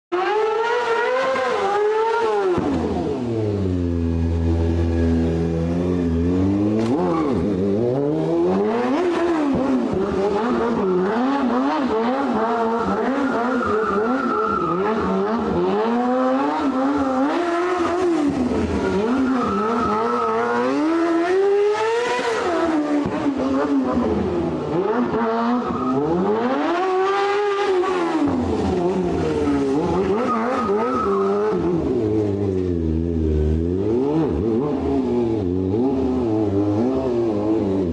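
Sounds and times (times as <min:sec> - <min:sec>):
motorcycle engines revving: 0:00.1 - 0:37.9.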